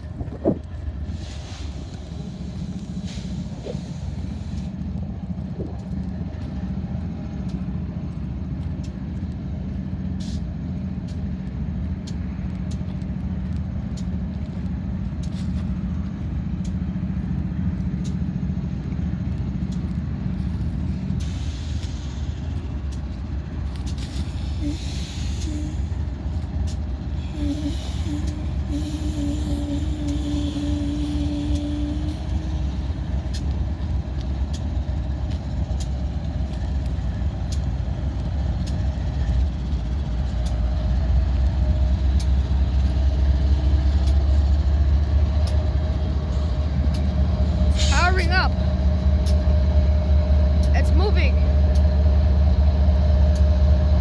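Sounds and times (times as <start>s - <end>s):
diesel locomotives idling: 0.0s - 54.0s.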